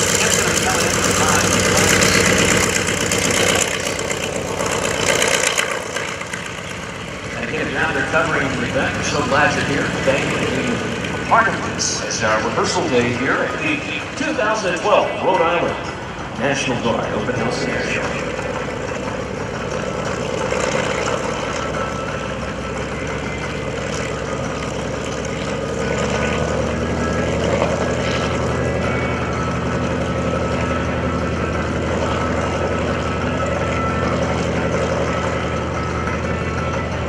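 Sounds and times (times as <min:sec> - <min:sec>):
propeller plane engine running: 0:00.0 - 0:37.0.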